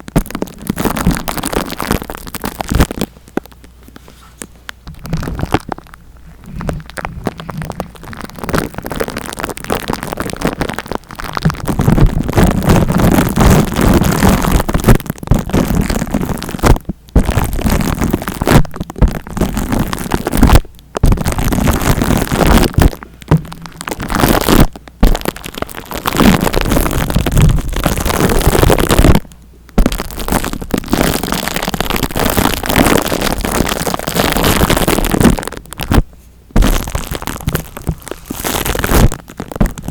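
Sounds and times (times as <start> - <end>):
rubbing and scratching on microphone: 0.0 - 39.9.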